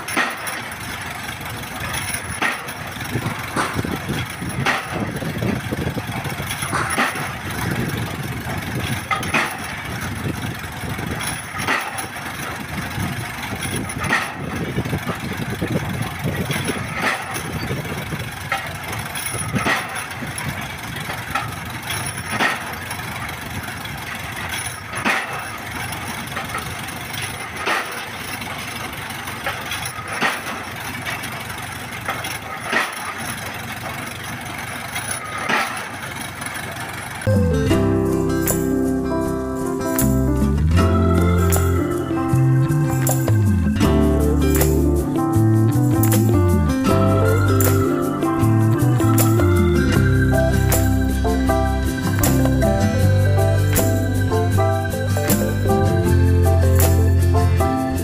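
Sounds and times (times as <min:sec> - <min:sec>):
winch engine running: 0:00.0 - 0:58.0.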